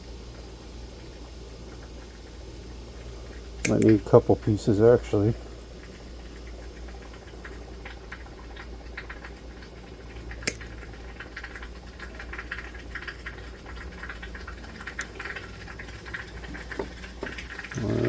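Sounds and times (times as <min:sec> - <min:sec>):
small ticks and crackles: 0:00.0 - 0:18.0
steady low hum: 0:00.0 - 0:18.0.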